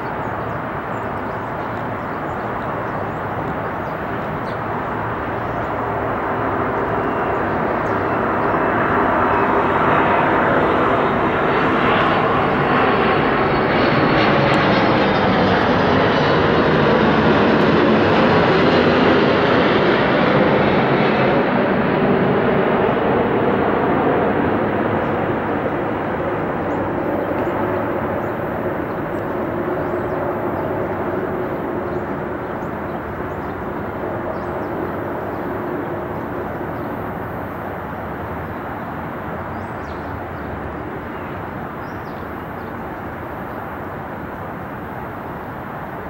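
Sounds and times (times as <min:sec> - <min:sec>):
jet engines rumbling: 0:00.0 - 0:46.0.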